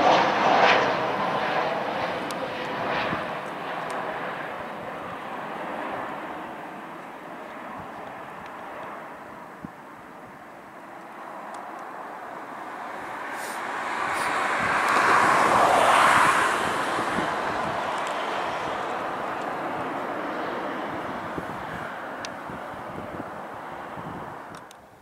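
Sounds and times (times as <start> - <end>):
jet engine noise: 0.0 - 25.0.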